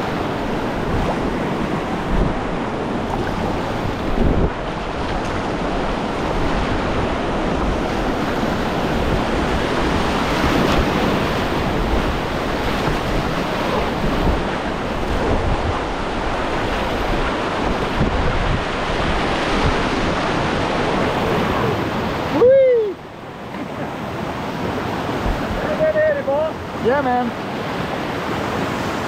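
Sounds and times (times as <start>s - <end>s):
churning water rushing: 0.0s - 29.0s.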